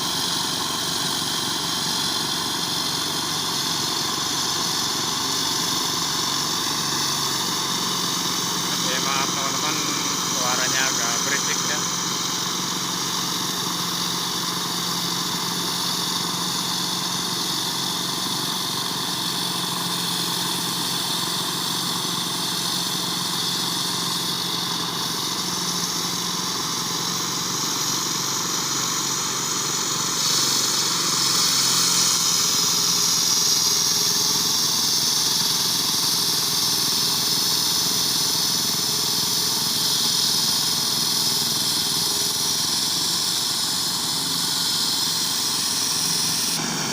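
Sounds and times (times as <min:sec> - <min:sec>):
excavator diesel engine running: 0:00.0 - 0:46.9
high hiss: 0:00.0 - 0:46.9.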